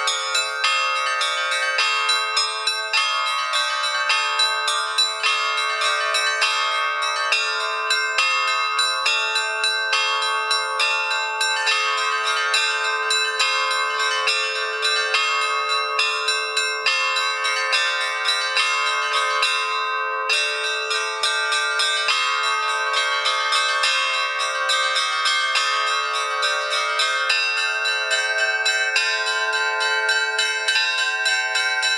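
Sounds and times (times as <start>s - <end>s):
bells ringing: 0.0s - 31.9s.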